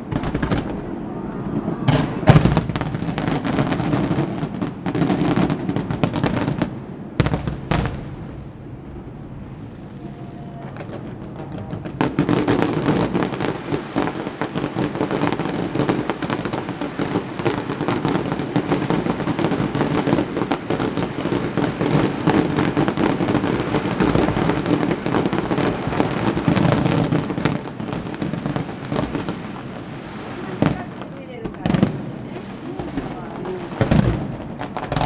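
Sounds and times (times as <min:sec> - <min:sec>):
fireworks booming and crackling: 0:00.0 - 0:35.0.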